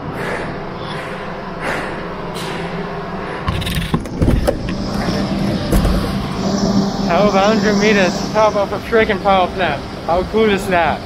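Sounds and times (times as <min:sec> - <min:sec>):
steady rumble: 0:00.0 - 0:11.0.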